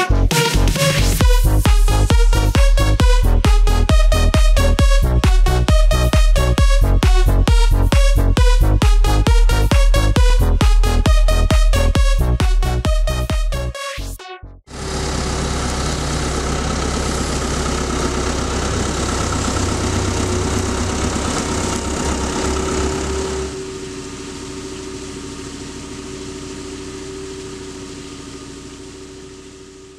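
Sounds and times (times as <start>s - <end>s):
tractor diesel engine running: 0.0s - 13.4s, 14.7s - 29.9s.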